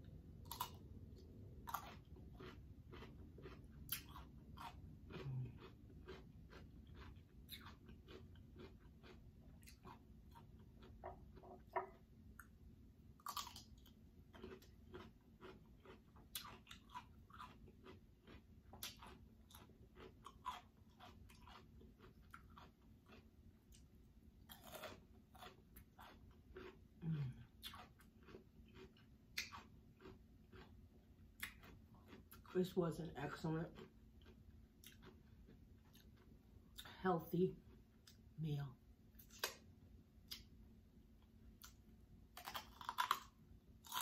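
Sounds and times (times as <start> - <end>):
person biting and chewing: 0.3 - 12.6, 13.2 - 32.5, 33.7 - 36.8, 39.2 - 40.6, 41.6 - 44.0.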